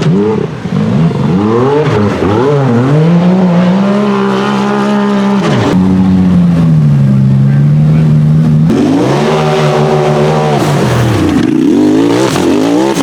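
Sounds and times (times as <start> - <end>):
buggy engine revving hard: 0.0 - 13.0.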